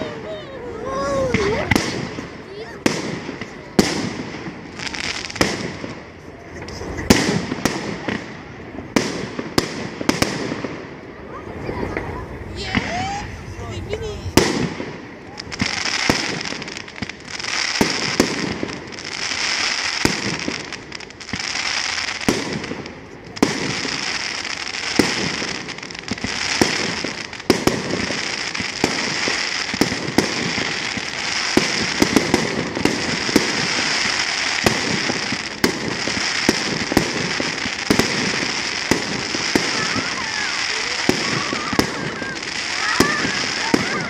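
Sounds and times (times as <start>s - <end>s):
continuous hiss: 0.0s - 44.0s
fireworks bangs: 0.0s - 44.0s.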